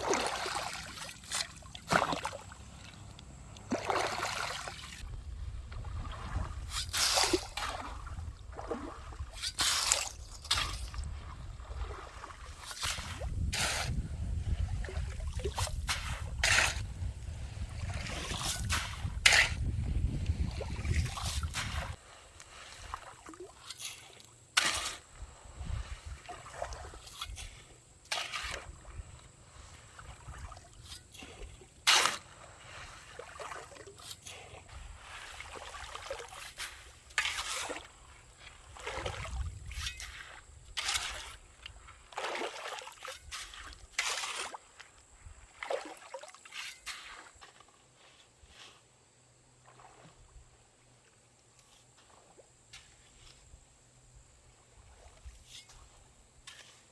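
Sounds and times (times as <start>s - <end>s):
stream water splashing: 0.0s - 47.9s, 49.5s - 51.3s.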